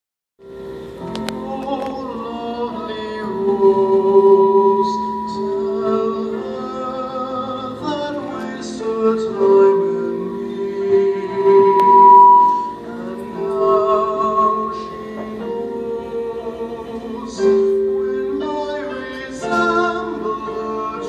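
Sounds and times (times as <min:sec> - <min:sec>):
music with singing: 0:00.6 - 0:21.0.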